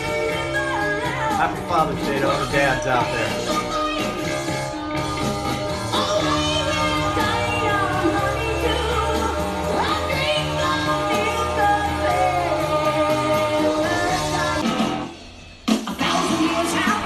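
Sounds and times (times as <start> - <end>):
song with singing voice and bass: 0.0 - 17.0.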